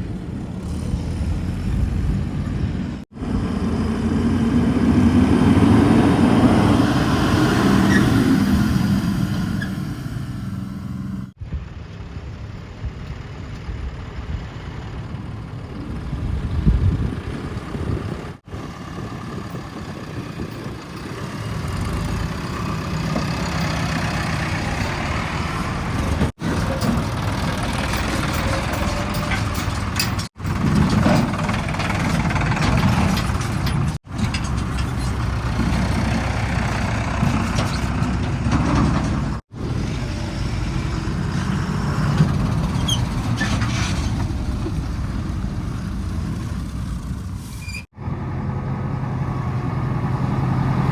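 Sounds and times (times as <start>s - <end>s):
heavy diesel engines running: 0.0s - 50.9s.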